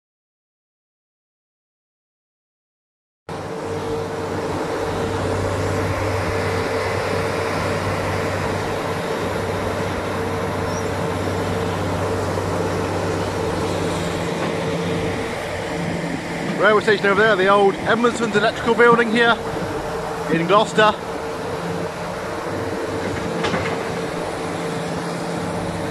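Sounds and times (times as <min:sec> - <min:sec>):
diesel excavators running: 0:03.3 - 0:25.9.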